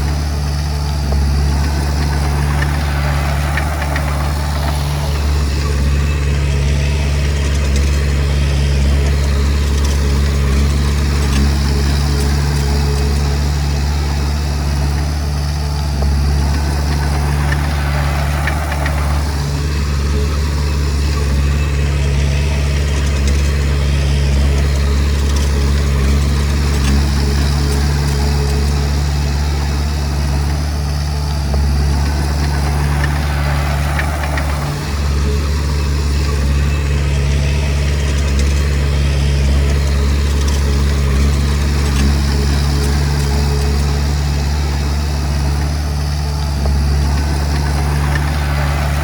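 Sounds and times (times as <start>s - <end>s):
bulldozer diesel engine droning: 0.0s - 49.0s
high-pitched mechanical noise: 0.0s - 49.0s.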